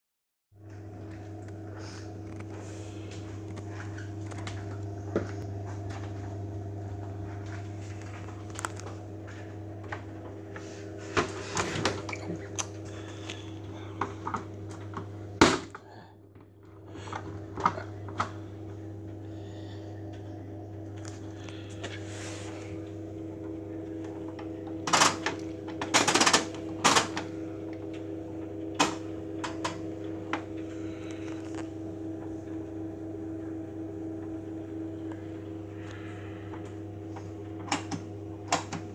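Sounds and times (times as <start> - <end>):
washing machine hum: 0.6 - 38.9.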